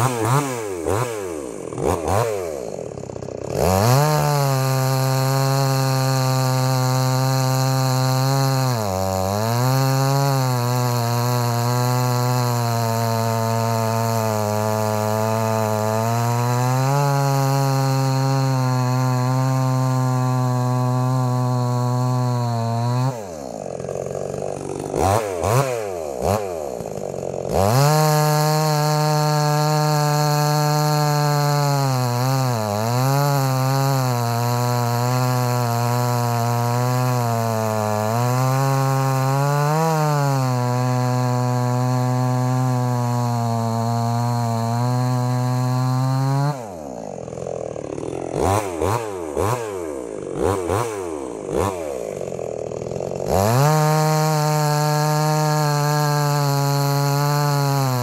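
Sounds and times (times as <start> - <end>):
chainsaw cutting a log: 0.0 - 58.0
chainsaw idling with throttle blips: 0.0 - 58.0.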